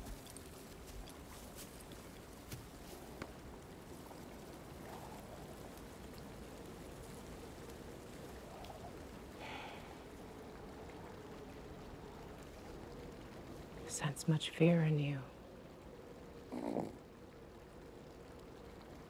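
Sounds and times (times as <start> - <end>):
soundtrack hiss: 0.0 - 19.0.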